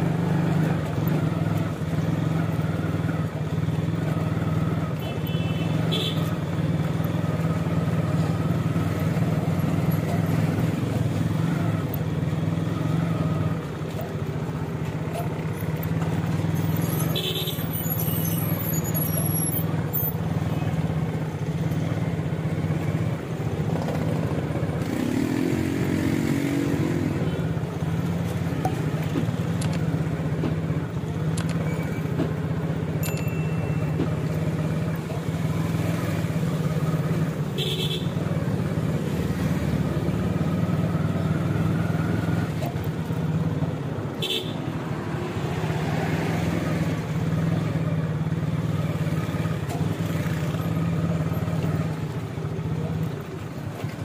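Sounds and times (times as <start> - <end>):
traffic engine drone: 0.0 - 54.0.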